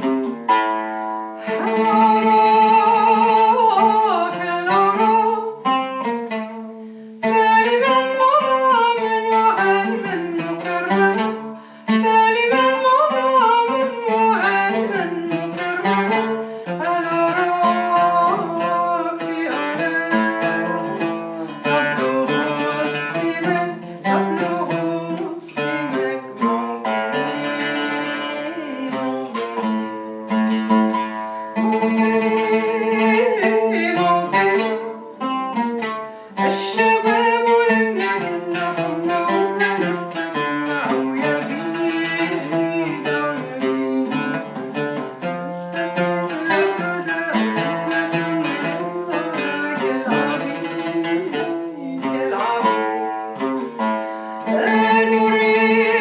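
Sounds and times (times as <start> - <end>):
woman singing: 0.0 - 0.4, 1.4 - 56.0
oud melody: 0.0 - 56.0.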